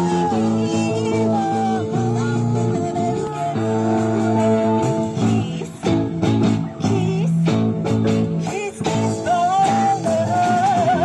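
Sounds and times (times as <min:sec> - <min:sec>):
live dance music: 0:00.0 - 0:11.0.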